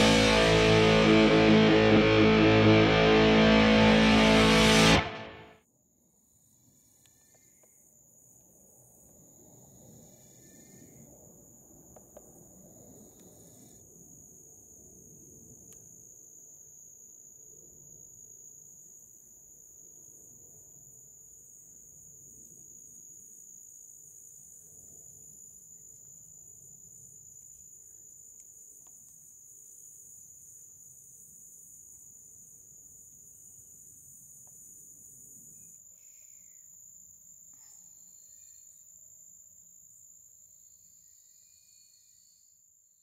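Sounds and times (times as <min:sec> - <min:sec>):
crickets trilling: 0:06.5 - 0:43.0.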